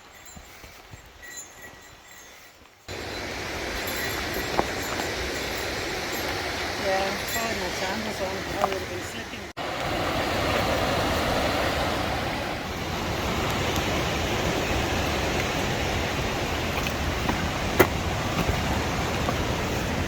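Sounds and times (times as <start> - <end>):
river water rushing: 2.9 - 20.0.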